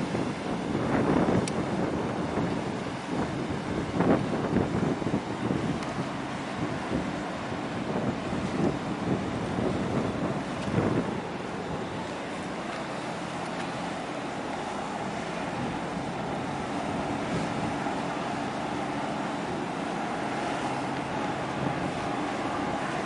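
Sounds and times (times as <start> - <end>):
ship engine hum: 0.0 - 23.0
water rushing along hull: 0.0 - 23.0
wind on microphone: 0.0 - 23.0.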